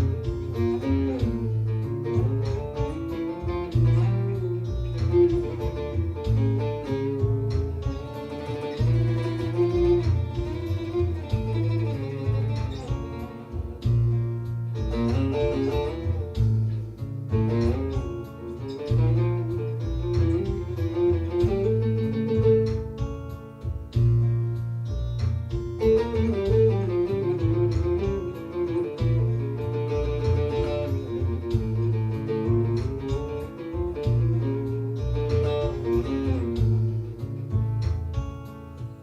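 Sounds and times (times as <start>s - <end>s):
plucked lute melody: 0.0s - 39.0s
sustained low bass line: 0.0s - 39.0s.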